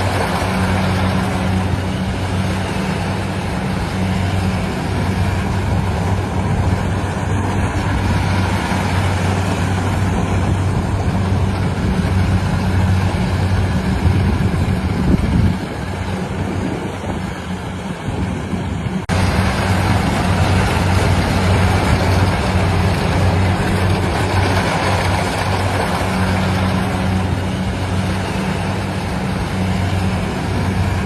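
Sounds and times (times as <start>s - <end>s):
harvester engine running: 0.0s - 31.0s.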